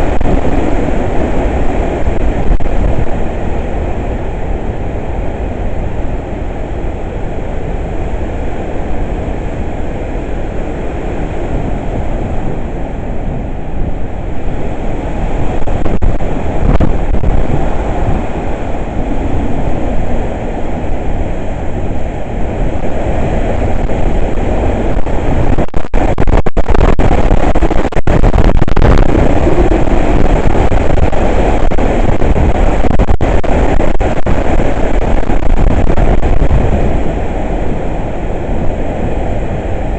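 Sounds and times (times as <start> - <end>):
strong wind buffeting microphone: 0.0 - 39.9.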